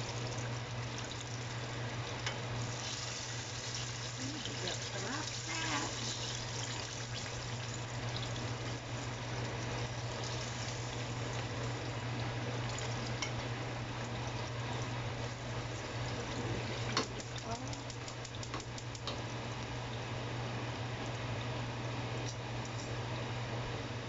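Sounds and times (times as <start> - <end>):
chicken deep-frying in oil: 0.0 - 24.0
low steady hum: 0.0 - 24.0.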